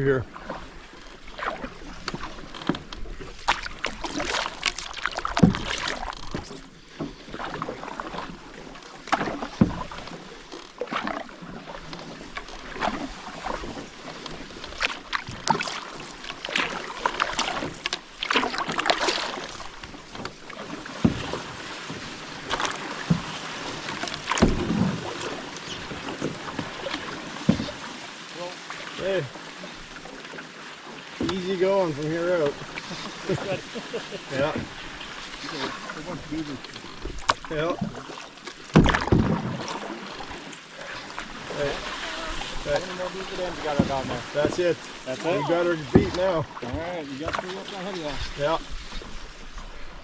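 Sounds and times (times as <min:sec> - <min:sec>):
paddle splashing water: 0:00.0 - 0:50.0
paddle knocking against canoe: 0:00.2 - 0:50.0.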